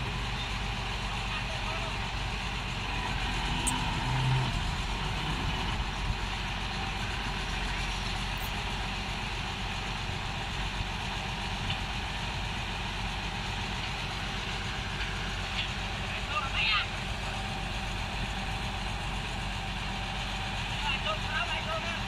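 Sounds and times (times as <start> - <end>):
crane engine idling: 0.0 - 22.0.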